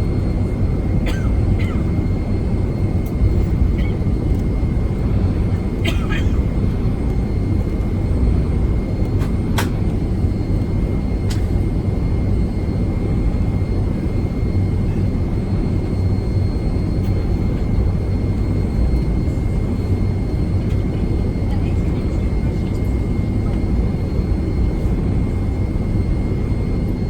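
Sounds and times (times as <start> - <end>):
jet cabin rumble: 0.0 - 27.0.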